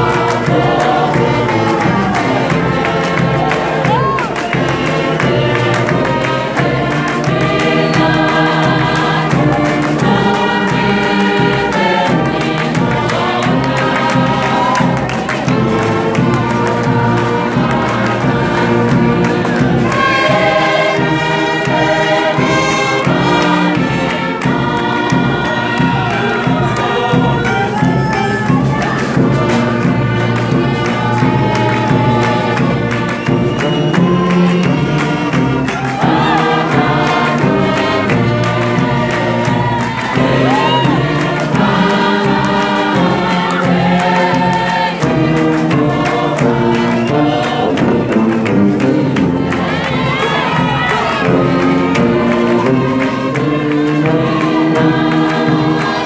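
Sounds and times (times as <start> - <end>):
brass band with sousaphones: 0.0 - 56.0
gospel choir singing in harmony: 0.0 - 56.0
singers clapping: 0.0 - 56.0.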